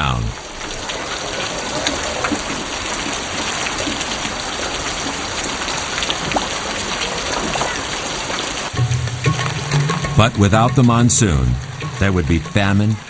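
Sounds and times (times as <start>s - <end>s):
heavy rain on hard surfaces: 0.0s - 13.0s
raindrops splashing: 0.0s - 13.0s.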